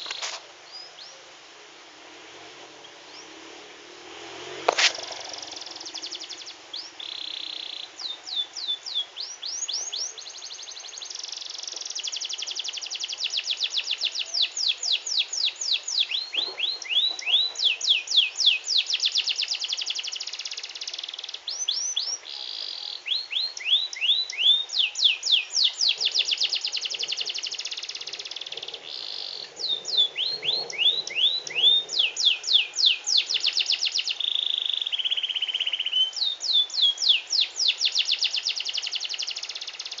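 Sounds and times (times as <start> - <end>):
canary singing trills: 4.9 - 40.0.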